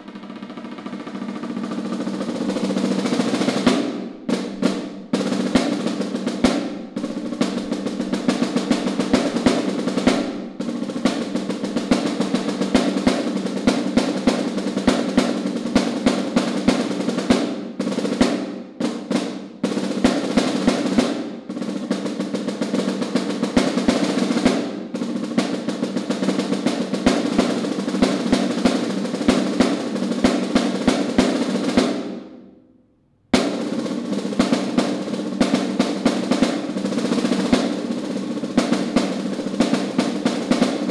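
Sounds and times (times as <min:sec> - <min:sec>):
snare drum rolls and strokes: 0:00.0 - 0:32.6, 0:33.3 - 0:40.9.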